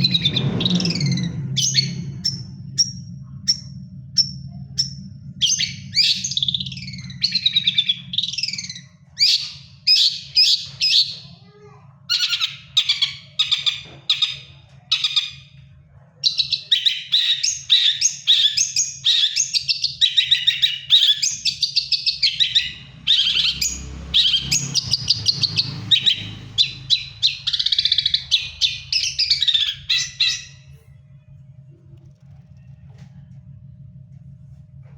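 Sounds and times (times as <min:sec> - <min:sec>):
bird chattering song: 0:00.0 - 0:11.4, 0:12.1 - 0:15.6, 0:16.2 - 0:30.9
steady low hum: 0:00.0 - 0:34.9.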